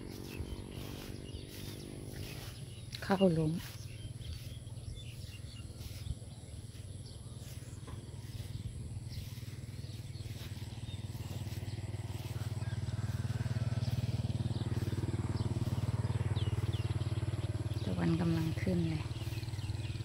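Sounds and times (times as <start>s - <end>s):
low pulsing engine hum: 0.0s - 20.0s.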